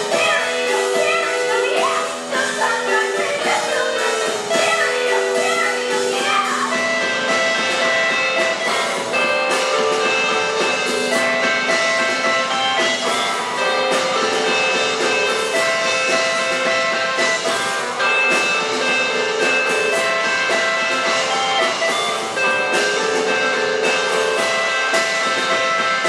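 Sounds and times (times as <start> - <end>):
drum kit: 0.0 - 26.0
electric guitars: 0.0 - 26.0.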